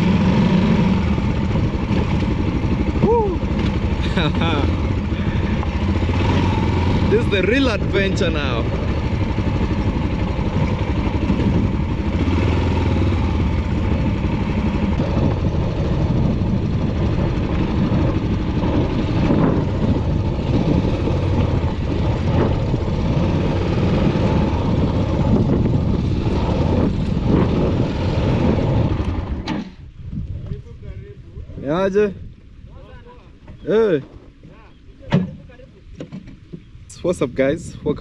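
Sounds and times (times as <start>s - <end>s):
motorcycle engine running: 0.0s - 30.7s.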